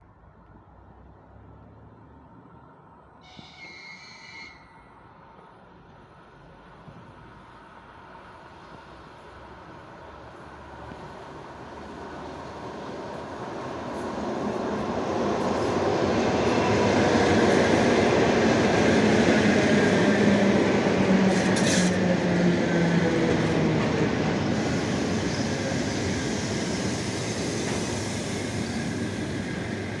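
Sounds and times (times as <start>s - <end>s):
train passing: 1.0s - 30.0s
wheel and rail noise: 3.2s - 30.0s.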